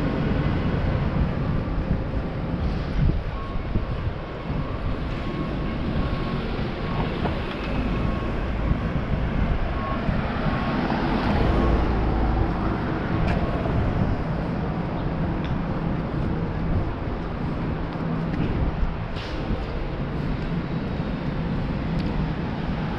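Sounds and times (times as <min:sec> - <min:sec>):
traffic noise: 0:00.0 - 0:22.9
wind buffeting microphone: 0:00.0 - 0:22.9.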